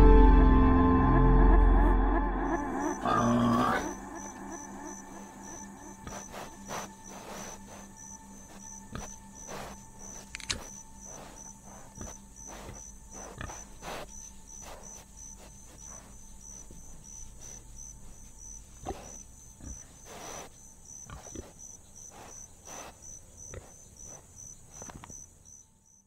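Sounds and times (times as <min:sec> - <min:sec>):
high chirping pulse: 0:00.1 - 0:22.9
buffalo tearing and crunching grass: 0:03.1 - 0:25.2.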